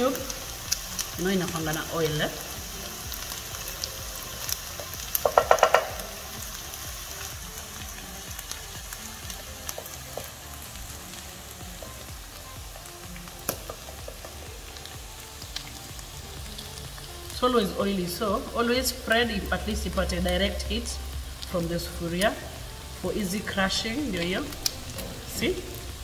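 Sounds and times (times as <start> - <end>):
meat and onions sizzling in oil: 0.0 - 26.0.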